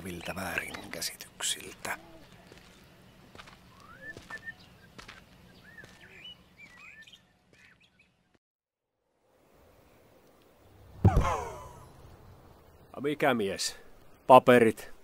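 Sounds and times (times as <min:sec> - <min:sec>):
faint small birds chirping: 0:00.0 - 0:08.4, 0:09.4 - 0:15.0.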